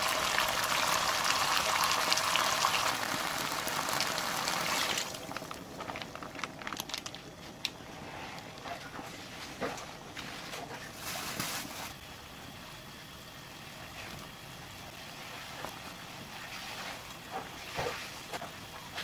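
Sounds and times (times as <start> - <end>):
sauce bubbling and sizzling in pan: 0.0 - 10.4, 11.9 - 19.0.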